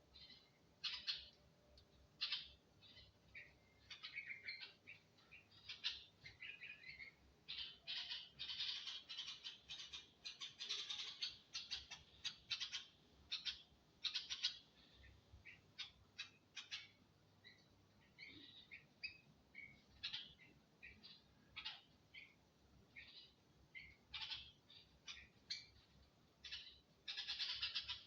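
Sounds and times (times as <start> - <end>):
baby birds chirping: 0.1 - 1.4, 2.2 - 28.0.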